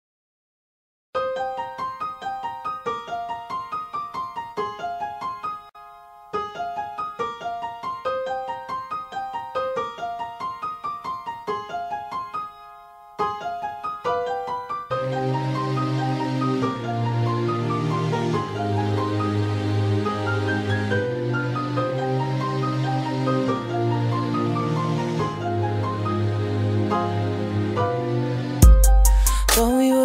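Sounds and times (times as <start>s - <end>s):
piano arpeggio: 1.2s - 30.0s.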